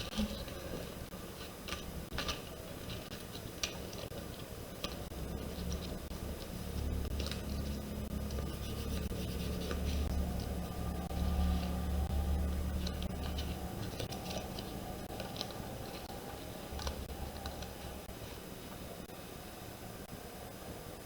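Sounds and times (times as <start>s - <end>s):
paper being handled: 0.0s - 18.9s
steady low hum: 0.0s - 21.0s.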